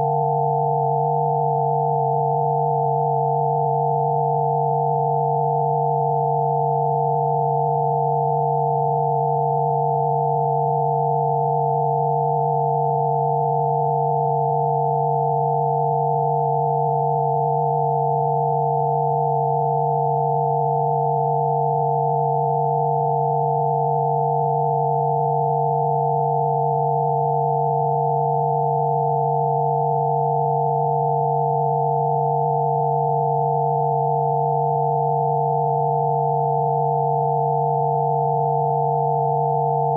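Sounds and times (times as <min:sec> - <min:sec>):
steady synthesized sine tones: 0:00.0 - 0:39.9.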